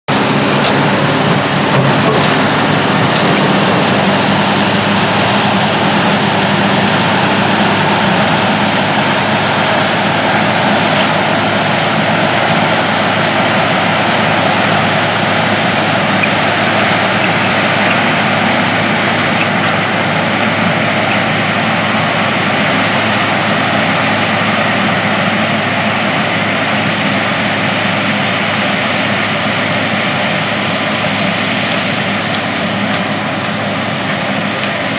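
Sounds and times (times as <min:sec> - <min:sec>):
tractor diesel engine running: 0:00.0 - 0:34.9
forage harvester chopping corn: 0:00.1 - 0:34.9.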